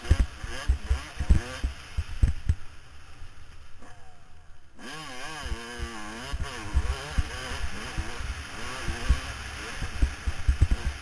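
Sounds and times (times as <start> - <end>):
dirt bike engine revving: 0.0 - 3.0, 3.6 - 11.0.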